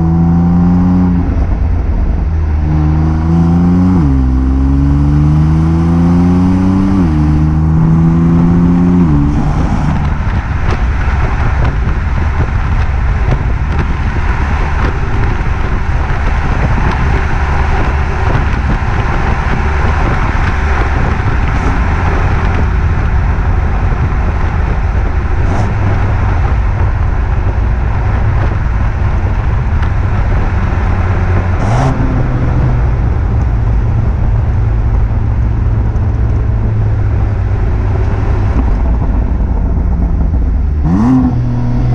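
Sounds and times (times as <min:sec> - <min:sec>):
car engine accelerating: 0:00.0 - 0:41.9
road noise: 0:00.0 - 0:41.9.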